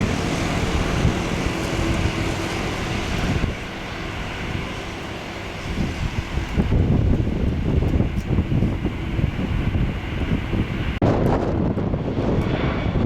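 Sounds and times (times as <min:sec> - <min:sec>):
jet engine roar: 0:00.0 - 0:13.0
wind buffeting microphone: 0:00.0 - 0:13.0.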